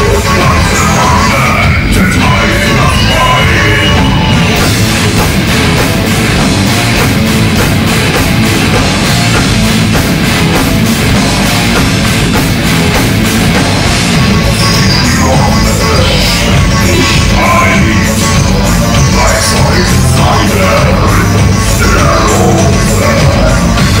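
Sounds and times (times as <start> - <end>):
distorted electric guitars: 0.0 - 24.0
pounding drum beat: 0.0 - 24.0.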